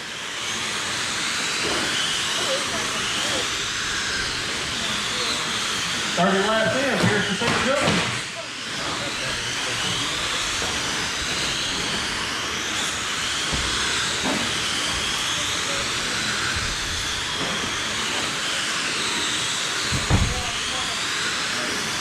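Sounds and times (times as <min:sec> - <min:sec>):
electric rc cars whining: 0:00.0 - 0:22.0.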